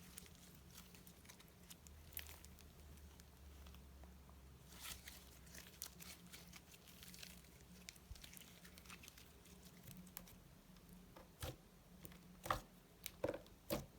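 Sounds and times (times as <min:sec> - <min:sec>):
sticky slime crackles: 0:00.0 - 0:04.0, 0:04.6 - 0:13.9.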